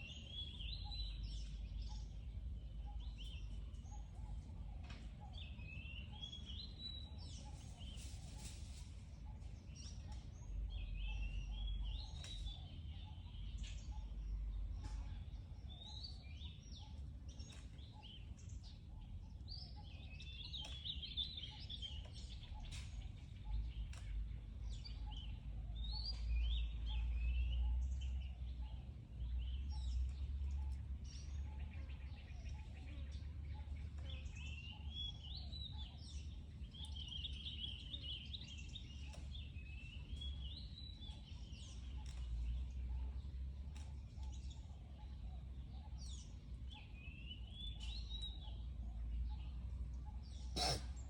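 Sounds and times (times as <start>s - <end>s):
birds chirping and warbling: 0.0s - 51.0s.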